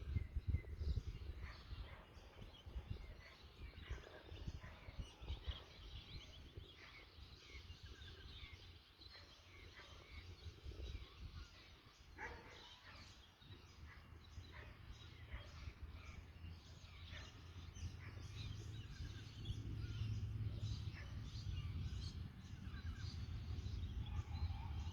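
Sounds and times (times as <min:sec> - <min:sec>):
wind buffeting microphone: 0:00.0 - 0:08.8, 0:10.1 - 0:24.9
small birds chirping faintly: 0:00.0 - 0:24.9.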